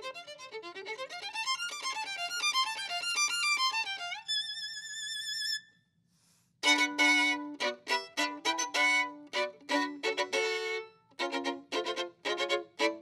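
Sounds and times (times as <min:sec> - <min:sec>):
solo violin playing: 0:00.0 - 0:05.7, 0:06.6 - 0:13.0.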